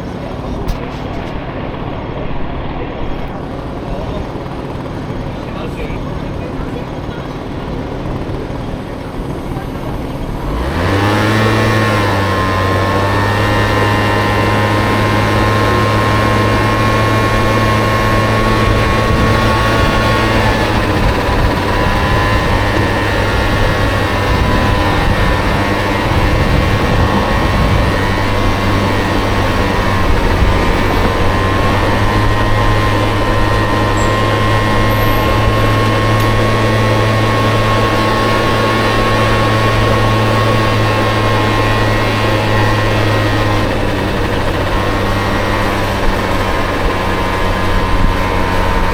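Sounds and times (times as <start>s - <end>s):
scooter engine revving: 0.0s - 48.9s.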